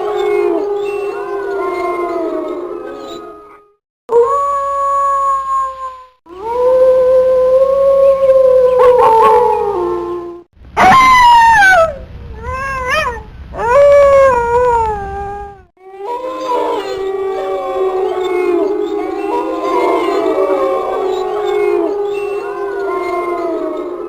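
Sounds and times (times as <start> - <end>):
wolves howling: 0.0 - 24.0.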